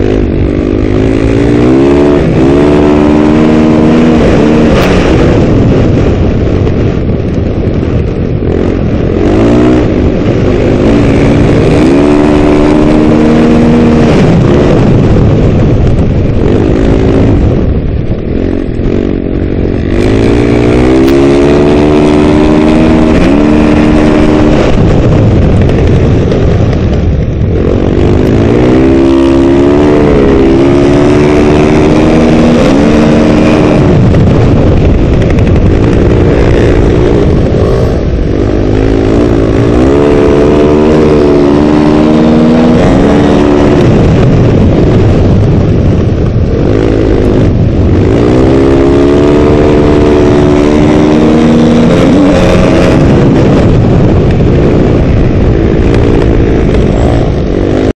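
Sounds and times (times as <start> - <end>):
motorcycle engine accelerating: 0.0 - 57.9
wind noise on microphone: 0.0 - 57.9.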